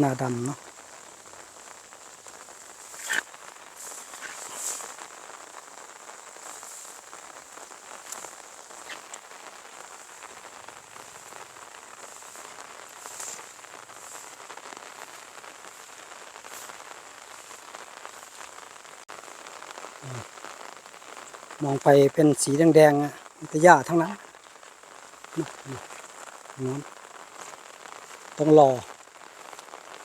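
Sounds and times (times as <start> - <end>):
light rain falling: 0.0 - 30.0
raindrops tapping: 0.0 - 30.0.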